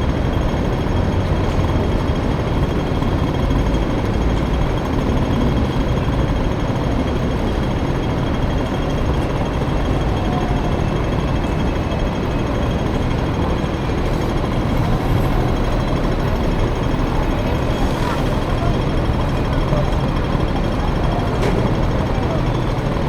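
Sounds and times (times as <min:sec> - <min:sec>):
road and traffic noise: 0:00.0 - 0:23.0.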